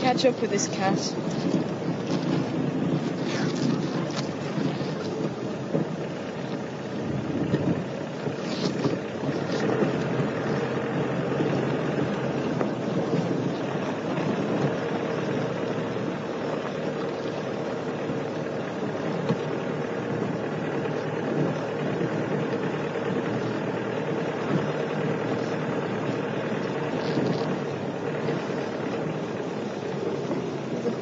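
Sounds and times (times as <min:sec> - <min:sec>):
rumbling road noise: 0:00.0 - 0:31.0
vehicle engine running: 0:00.0 - 0:31.0.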